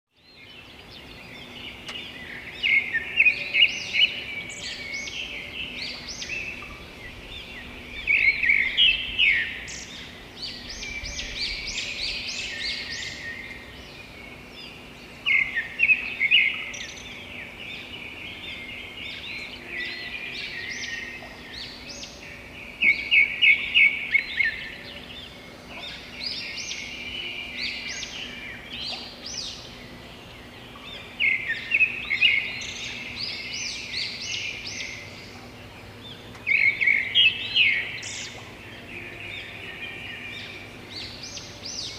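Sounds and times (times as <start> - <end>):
small birds chirping: 0.1 - 41.9.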